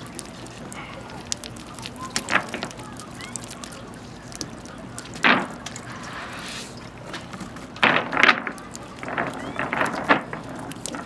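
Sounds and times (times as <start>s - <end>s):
water pattering: 0.0s - 11.0s.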